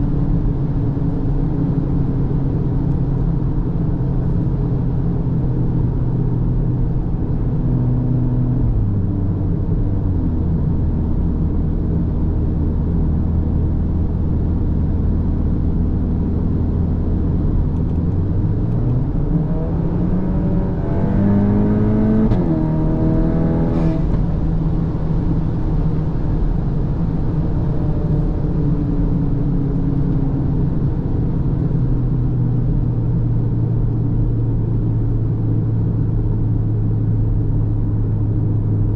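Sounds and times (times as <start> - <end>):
car engine cruising and revving: 0.0 - 38.9
road noise: 0.0 - 38.9.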